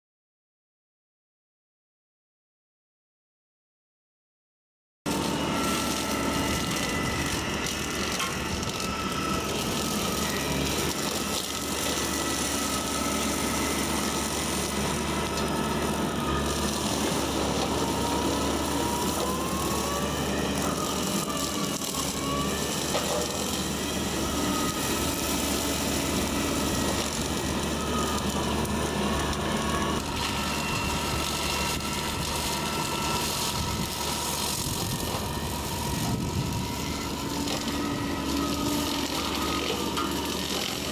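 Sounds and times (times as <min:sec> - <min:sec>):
diesel engine and hydraulics running: 0:05.1 - 0:40.9
whining tones gliding: 0:05.1 - 0:40.9.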